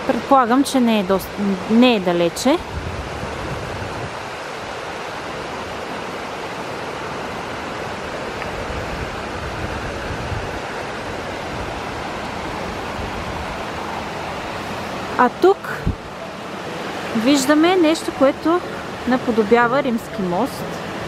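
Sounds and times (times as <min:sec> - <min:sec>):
river flowing over rocks: 0:00.0 - 0:21.0.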